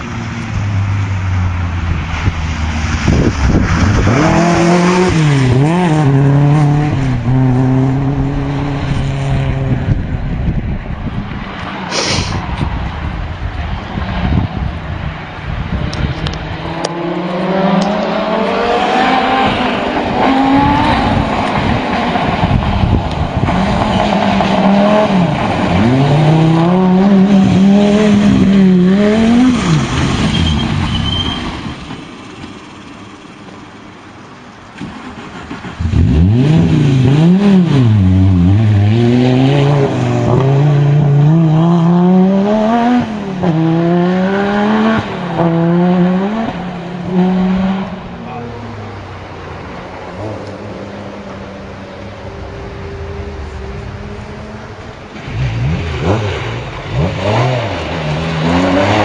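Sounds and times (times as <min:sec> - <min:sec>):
rally car engines revving: 0:00.0 - 0:33.9, 0:34.8 - 0:59.0.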